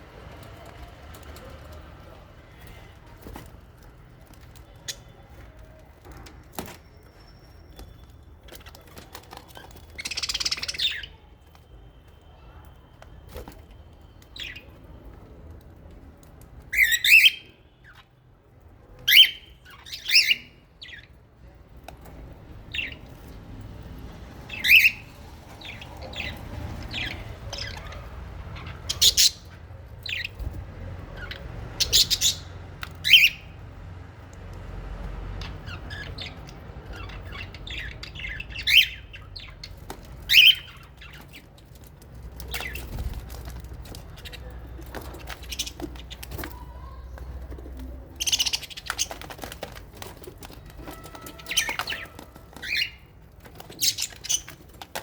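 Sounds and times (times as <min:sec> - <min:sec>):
birds squawking and chirping: 0:00.0 - 0:11.6, 0:16.6 - 0:18.2, 0:19.0 - 0:21.3, 0:22.5 - 0:33.6, 0:34.8 - 0:55.0.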